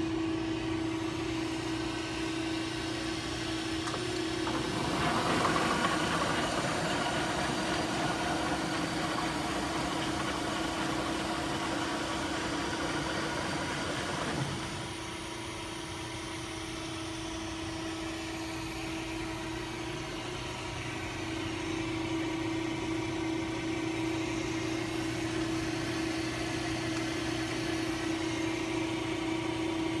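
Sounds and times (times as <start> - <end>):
machine humming with whine: 0.0 - 30.0.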